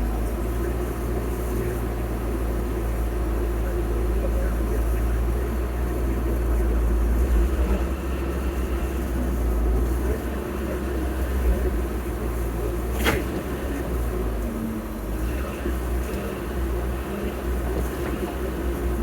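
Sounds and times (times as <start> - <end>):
heavy machinery engine rumbling: 0.0 - 19.0.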